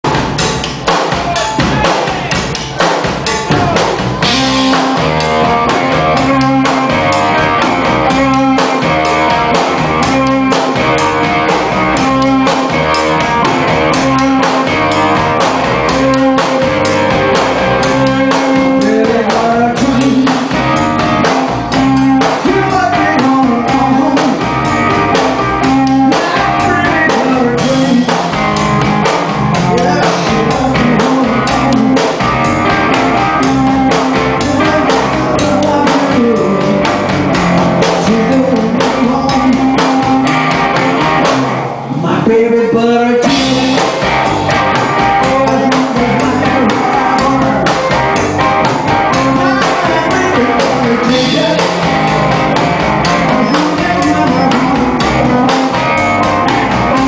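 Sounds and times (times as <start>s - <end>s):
drum kit: 0.0s - 57.0s
electric guitar: 0.0s - 57.0s
upright bass: 0.0s - 57.0s.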